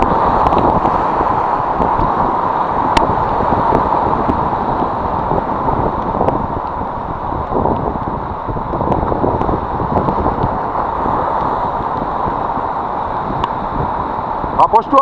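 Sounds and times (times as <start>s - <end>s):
surf breaking over rocks: 0.0s - 15.0s
wind buffeting microphone: 0.0s - 15.0s.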